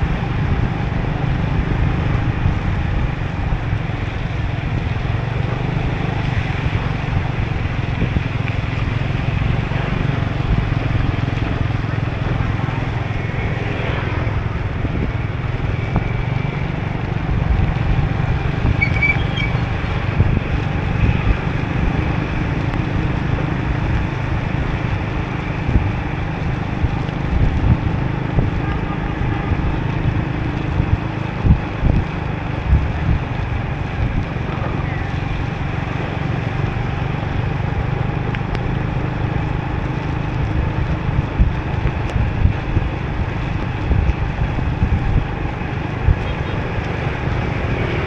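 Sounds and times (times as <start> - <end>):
motorbike engine: 0.0 - 48.0
wind buffeting microphone: 0.0 - 48.0.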